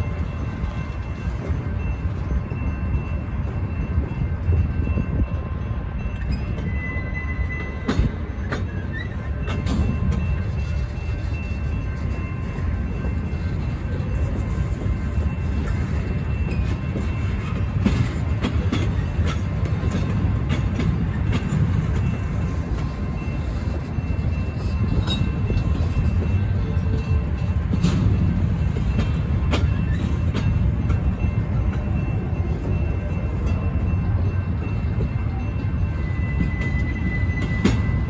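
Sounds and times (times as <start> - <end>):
train clicks and clanks: 0.0 - 38.0
train wheels rumbling on rail: 0.0 - 38.0.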